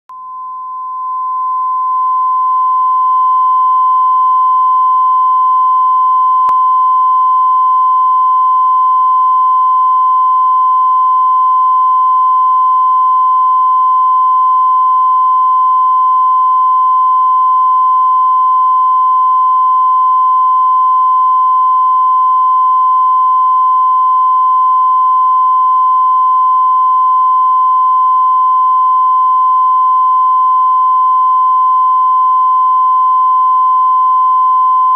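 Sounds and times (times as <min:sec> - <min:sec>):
high-pitched test tone beep: 0:00.1 - 0:34.9.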